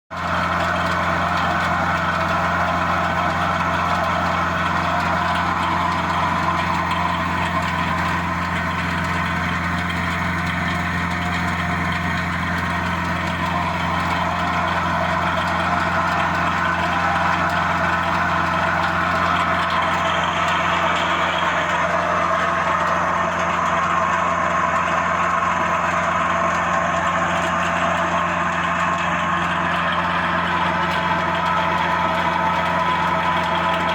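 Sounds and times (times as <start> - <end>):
air blower running: 0.1 - 33.9.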